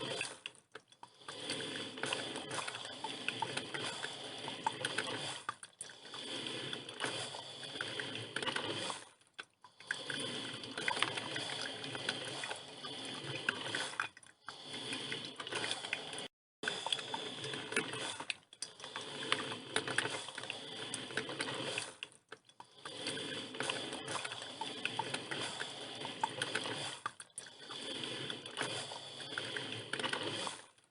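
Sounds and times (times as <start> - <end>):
coffee machine gurgling: 0.0 - 30.9.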